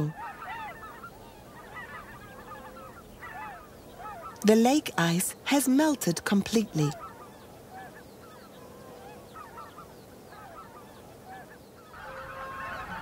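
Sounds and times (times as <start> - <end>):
geese calling: 0.0 - 13.0.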